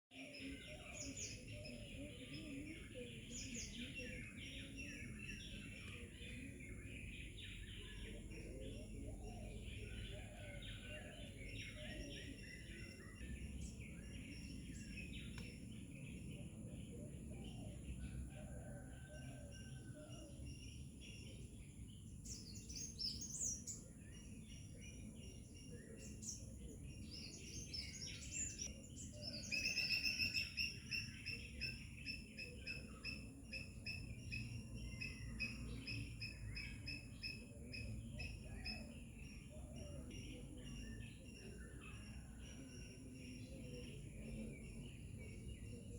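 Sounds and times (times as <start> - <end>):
wild birds chirping and trilling: 0.1 - 45.9.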